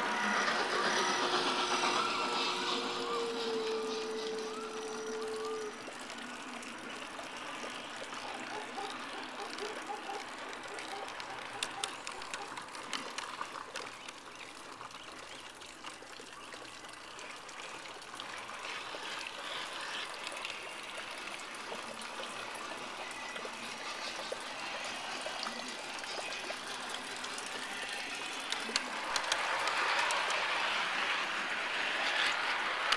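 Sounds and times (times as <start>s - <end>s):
water trickling and splashing: 3.0s - 32.9s.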